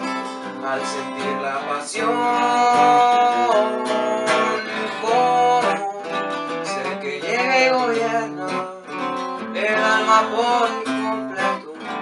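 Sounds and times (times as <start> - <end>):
man singing: 0.0 - 12.0
strummed acoustic guitar: 0.0 - 12.0.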